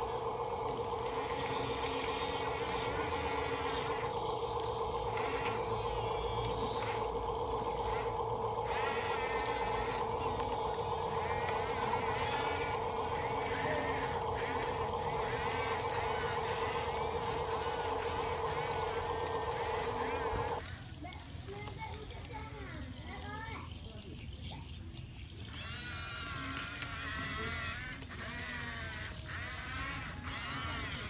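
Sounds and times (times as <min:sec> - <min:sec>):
electric motors whining: 0:00.0 - 0:23.5, 0:25.0 - 0:31.0.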